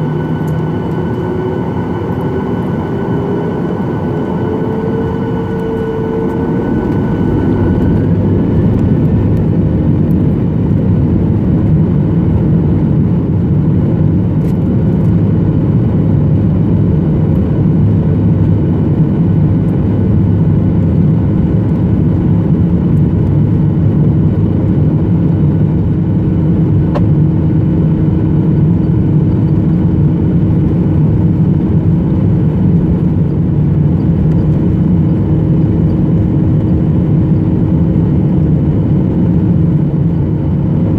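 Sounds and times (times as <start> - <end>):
jet engine drone: 0.0 - 40.9.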